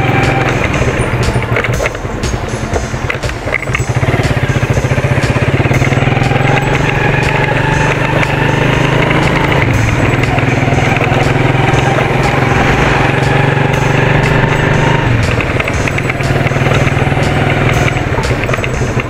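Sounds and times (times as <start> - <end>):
motorcycle engine running: 0.0 - 19.0
steady rushing noise: 0.0 - 19.0.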